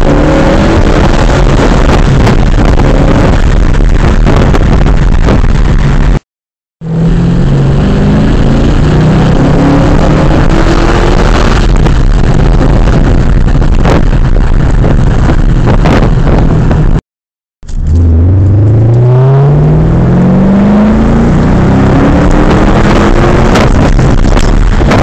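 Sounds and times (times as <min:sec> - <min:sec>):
loud car engine accelerating: 0:00.0 - 0:06.2, 0:06.8 - 0:17.0, 0:17.7 - 0:25.0.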